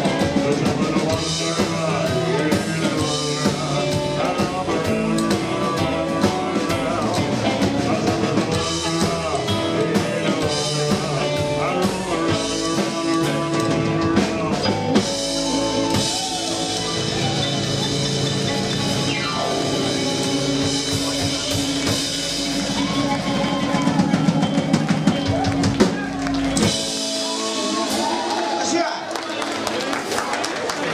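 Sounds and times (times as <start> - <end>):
upright double bass: 0.0 - 28.3
drum kit: 0.0 - 28.8
electric guitar: 0.0 - 30.9
keyboard: 0.0 - 30.9.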